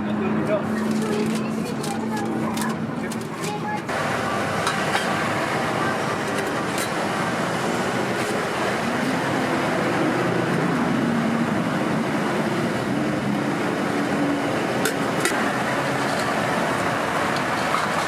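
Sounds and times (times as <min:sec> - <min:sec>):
traffic going by: 0:00.0 - 0:18.0.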